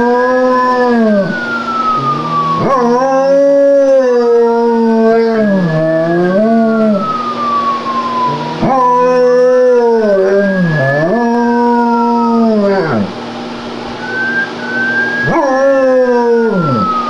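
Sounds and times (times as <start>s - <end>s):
dog howling: 0.0s - 7.5s, 8.2s - 13.2s, 15.2s - 17.0s
rising and falling wail: 0.0s - 13.2s, 14.0s - 17.0s.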